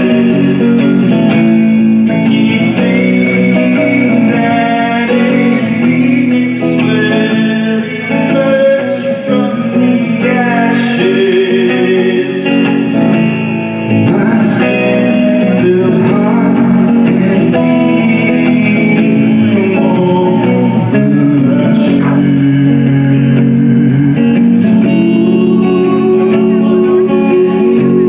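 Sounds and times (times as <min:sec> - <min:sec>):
person singing: 0:00.0 - 0:28.0
plucked guitar: 0:00.0 - 0:28.0.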